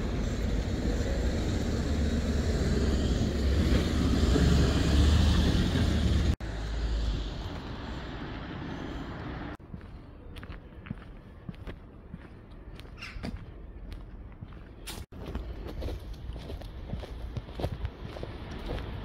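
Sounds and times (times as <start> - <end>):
lorry engine and tyres rumbling: 0.0 - 19.0
road traffic: 0.0 - 19.0.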